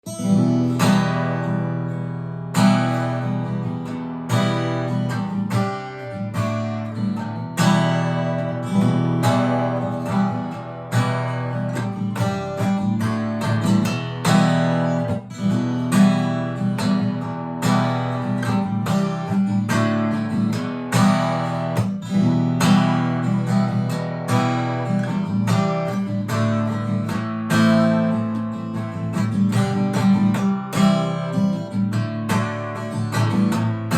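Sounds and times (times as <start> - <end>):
acoustic guitar strumming chords: 0.0 - 33.9.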